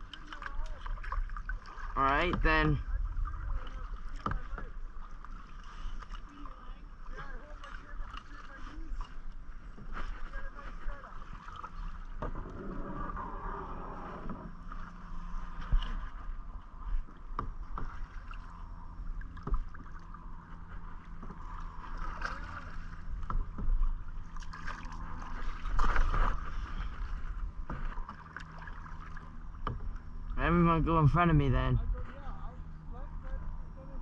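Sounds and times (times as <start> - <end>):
paddle splashing in water: 0.0 - 30.8
steady low rumble: 6.0 - 34.0.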